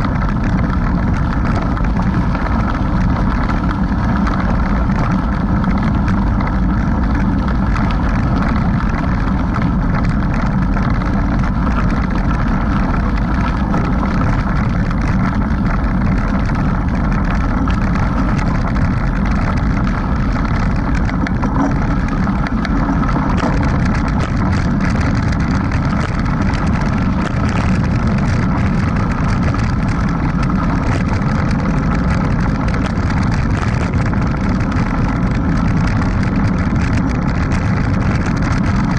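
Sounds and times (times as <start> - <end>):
bike tyres rumbling on gravel: 0.0 - 38.9
wind noise: 0.0 - 38.9.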